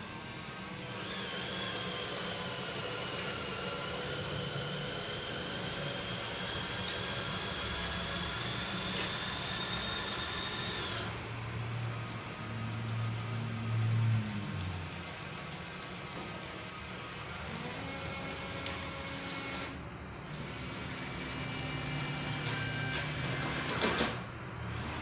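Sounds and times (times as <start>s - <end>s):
electric motors whirring: 0.0s - 25.0s.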